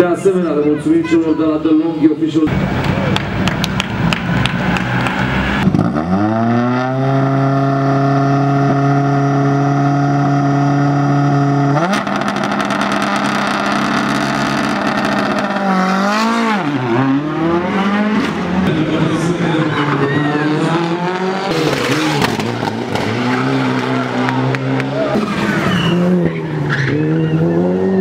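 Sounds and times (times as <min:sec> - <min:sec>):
exhaust crackling: 0:02.5 - 0:27.3
car engine revving: 0:02.5 - 0:28.0.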